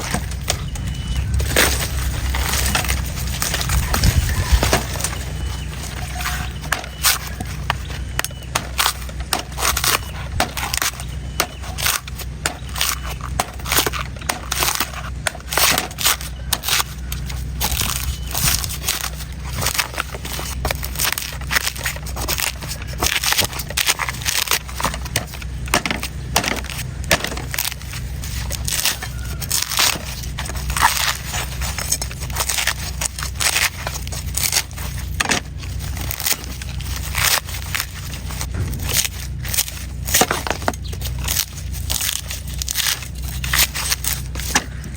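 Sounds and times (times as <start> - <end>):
knife cutting coconut husk: 0.0 - 44.9
steady low hum: 0.0 - 44.9.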